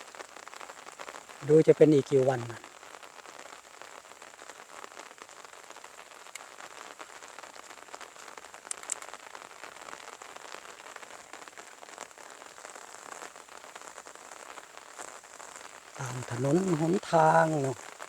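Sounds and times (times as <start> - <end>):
light rain patter: 0.0 - 18.0.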